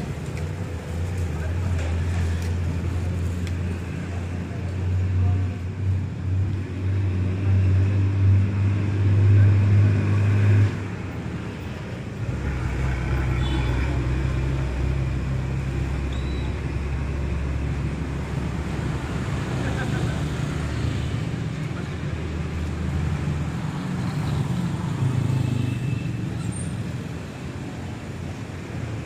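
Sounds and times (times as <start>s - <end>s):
road traffic engine drone: 0.0s - 29.0s.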